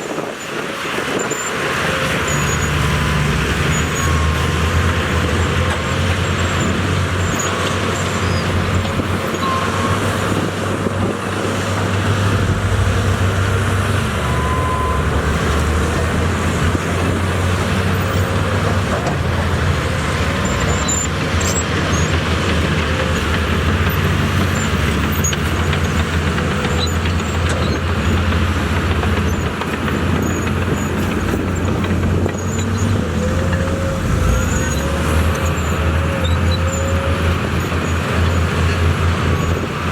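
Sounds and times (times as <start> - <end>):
heavy diesel machinery drone: 0.0 - 39.9.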